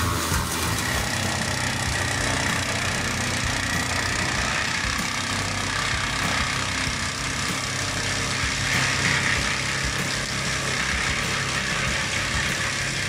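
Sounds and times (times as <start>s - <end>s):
branches being chipped: 0.0s - 13.0s
brush chipper engine hum: 0.0s - 13.0s.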